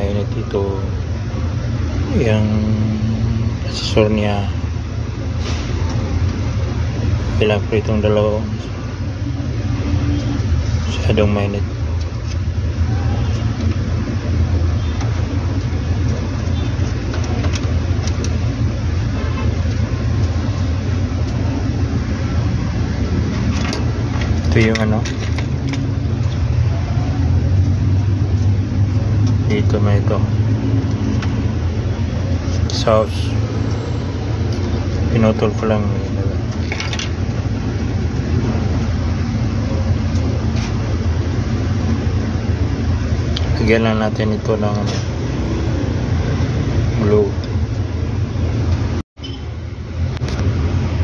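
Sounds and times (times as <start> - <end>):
constant background noise: 0.0 - 51.0
steady low hum: 0.0 - 51.0.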